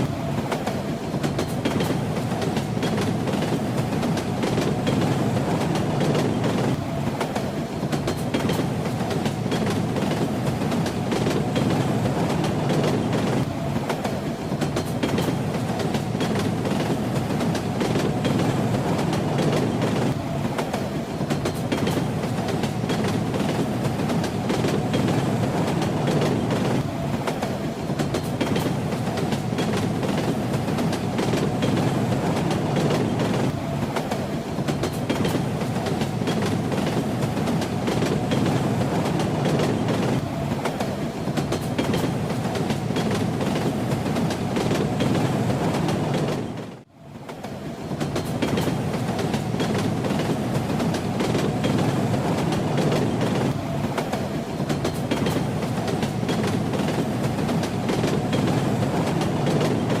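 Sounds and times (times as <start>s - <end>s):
train wheels clattering on rails: 0.0s - 60.0s.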